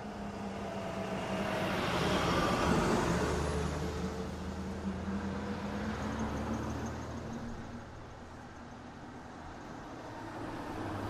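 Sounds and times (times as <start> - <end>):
low traffic hum: 0.0 - 11.0.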